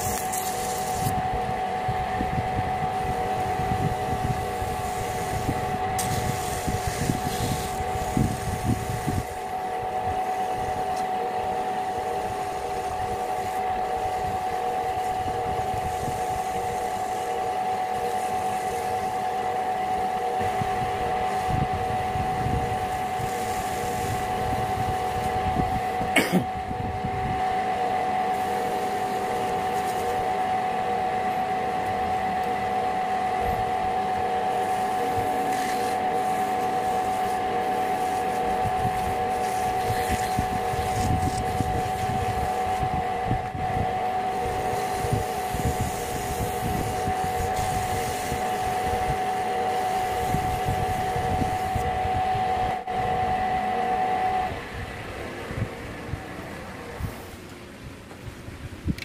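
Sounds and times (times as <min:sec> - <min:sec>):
wood lathe motor whine: 0:00.0 - 0:57.5.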